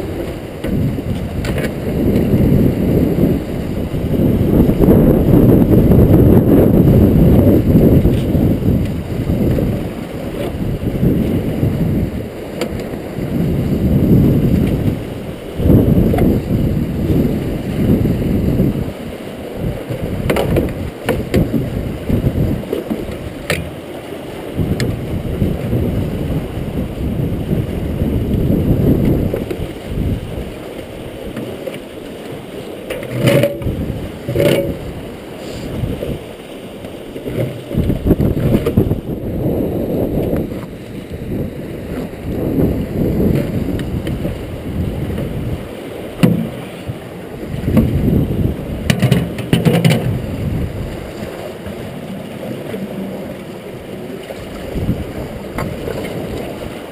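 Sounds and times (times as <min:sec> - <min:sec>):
water rushing and churning: 0:00.0 - 0:56.9.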